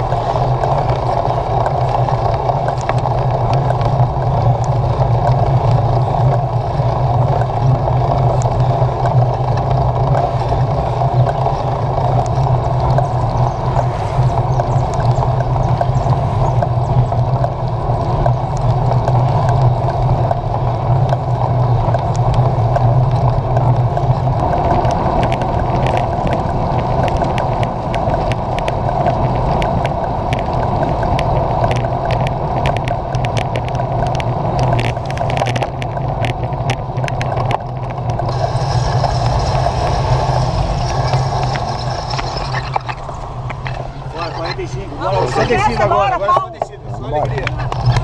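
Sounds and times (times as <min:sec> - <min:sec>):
wind and tyre rumble: 0:00.0 - 0:48.0.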